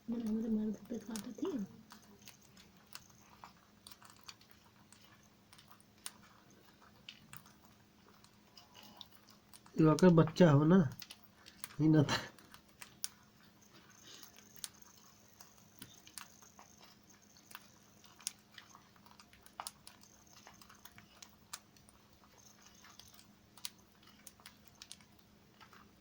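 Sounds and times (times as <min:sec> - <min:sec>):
faint steady hum: 0:00.0 - 0:26.0
parrot beak clicking and crunching: 0:00.0 - 0:26.0.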